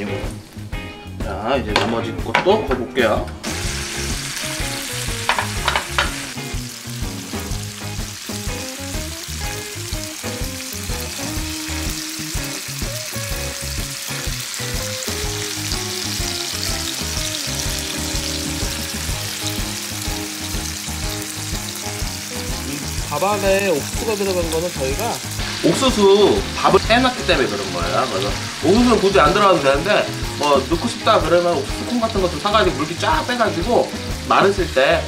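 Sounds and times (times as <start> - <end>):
food sizzling in a frying pan: 0.0 - 0.9, 3.4 - 35.0.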